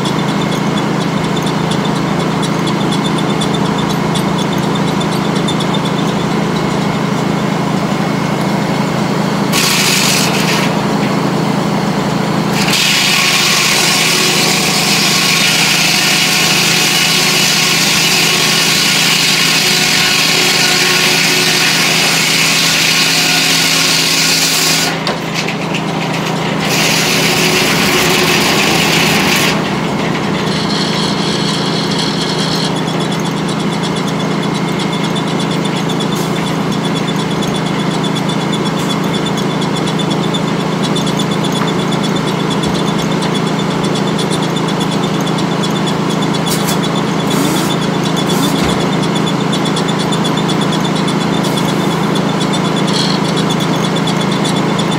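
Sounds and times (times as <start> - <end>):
circular saw ripping through log: 0.0 - 11.2, 12.5 - 54.9
mill machinery drone: 0.0 - 54.9.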